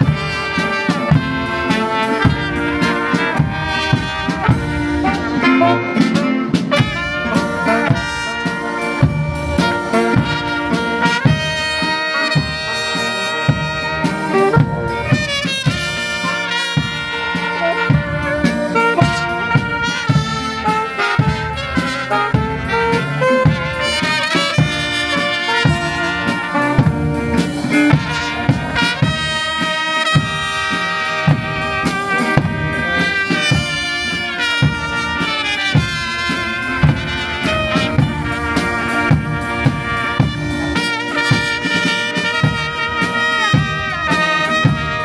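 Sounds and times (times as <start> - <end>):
brass band playing: 0.0 - 45.0
steady drum beat: 0.0 - 45.0.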